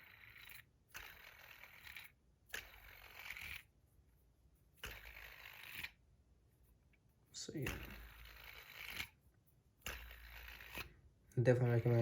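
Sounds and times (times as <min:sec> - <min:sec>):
fidget spinner rubbing: 0:00.0 - 0:12.0.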